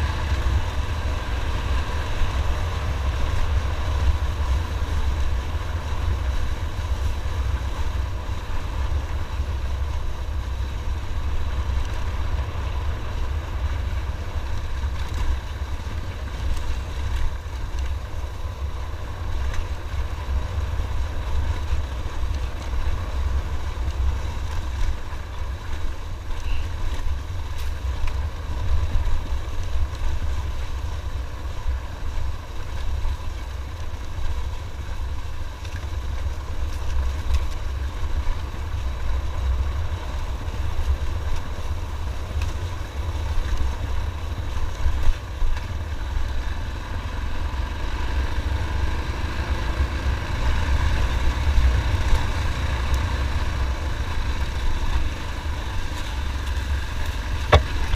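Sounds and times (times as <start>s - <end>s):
motorcycle engine drone: 0.0s - 57.9s.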